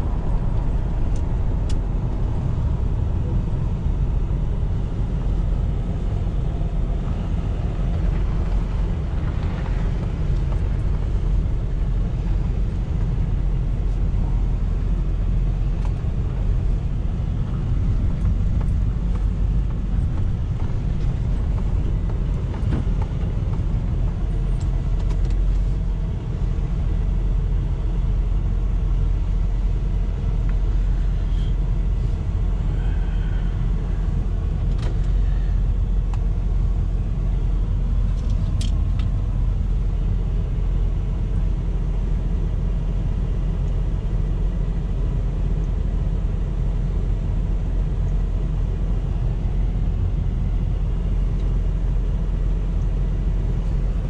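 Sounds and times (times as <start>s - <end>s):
road noise: 0.0s - 54.0s
truck engine rumble: 0.0s - 54.0s.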